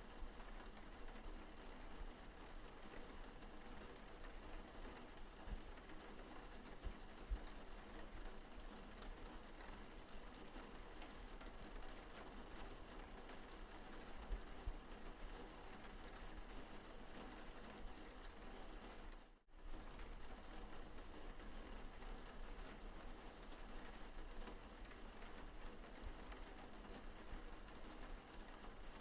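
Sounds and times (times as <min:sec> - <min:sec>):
rain pattering: 0:00.0 - 0:29.0.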